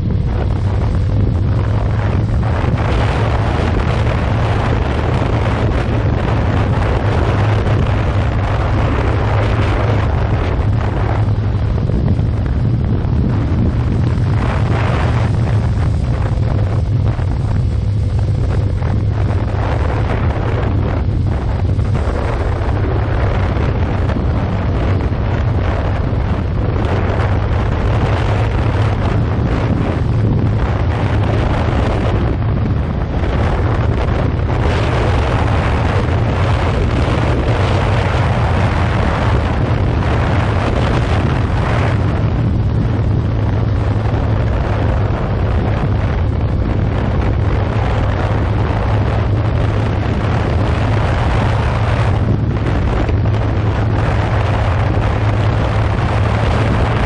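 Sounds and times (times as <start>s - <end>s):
motorcycle engine droning: 0.0s - 57.0s
wind buffeting microphone: 0.0s - 57.0s.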